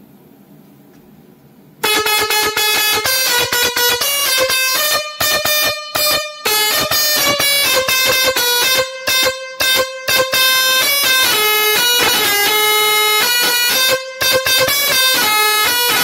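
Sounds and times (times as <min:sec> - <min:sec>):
musical horn playing tune: 0:01.8 - 0:16.0.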